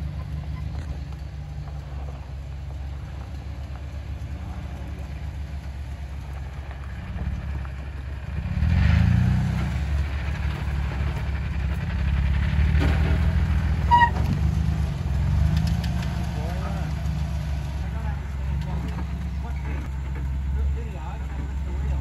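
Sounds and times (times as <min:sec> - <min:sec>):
off-road vehicle engine crawling: 0:00.0 - 0:22.0.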